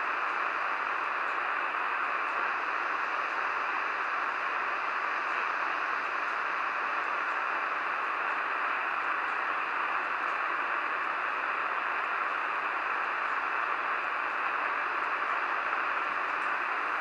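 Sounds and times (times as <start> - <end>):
shortwave radio static hiss: 0.0 - 17.0.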